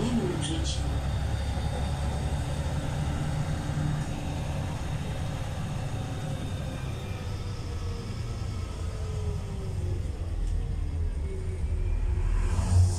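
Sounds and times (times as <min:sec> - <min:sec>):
bus engine rumble: 0:00.0 - 0:12.9
road noise: 0:00.0 - 0:12.9.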